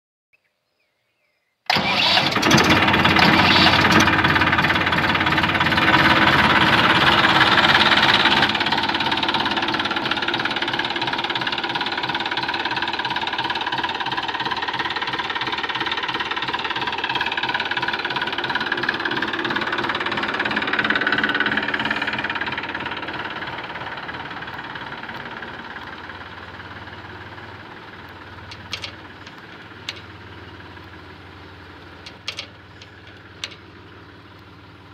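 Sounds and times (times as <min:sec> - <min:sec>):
tractor diesel engine running: 0:01.7 - 0:34.9.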